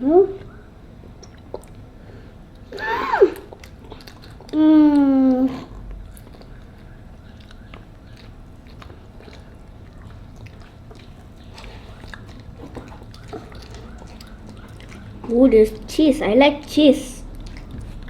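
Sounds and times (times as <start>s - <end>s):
children chewing and eating: 0.0s - 18.0s
mouth smacking and clicks: 1.2s - 1.9s, 2.5s - 18.0s.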